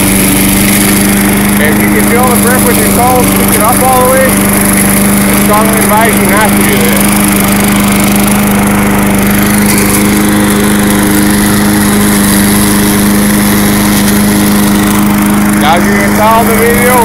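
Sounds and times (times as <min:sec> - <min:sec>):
lawn mower engine running: 0:00.0 - 0:17.0
mower shredding dry leaves: 0:00.0 - 0:17.0.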